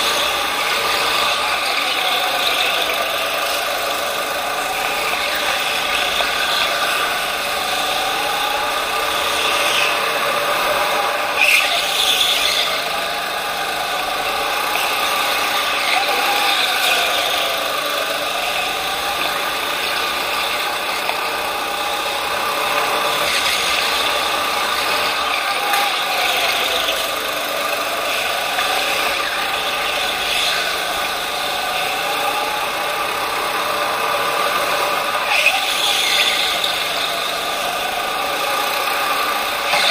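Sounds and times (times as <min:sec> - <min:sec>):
go-kart motor revving: 0:00.0 - 0:39.9.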